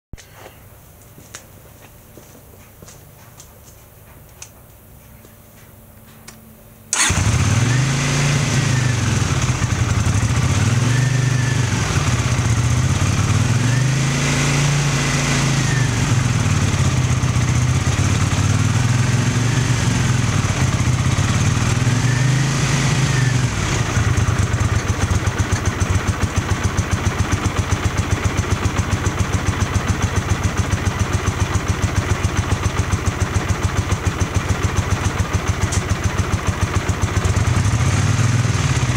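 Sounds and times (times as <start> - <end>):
motorcycle engine revving and idling: 6.9 - 38.9.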